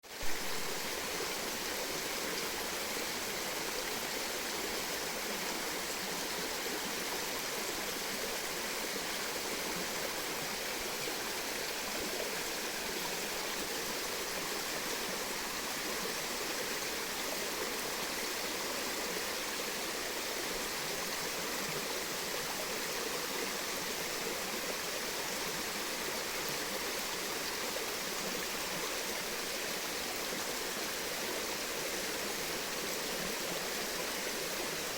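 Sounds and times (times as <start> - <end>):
rushing flowing water: 0.1 - 34.9.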